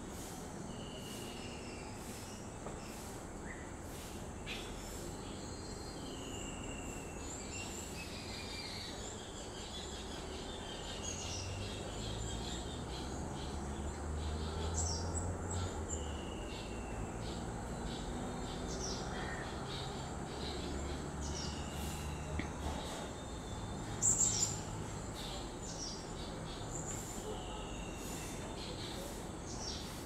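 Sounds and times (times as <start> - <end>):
birds whistling: 4.5 - 30.0.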